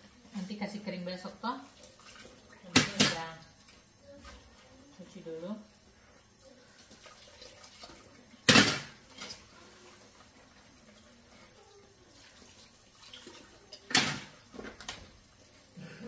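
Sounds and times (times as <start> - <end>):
faint stream of tap water: 1.3 - 15.8.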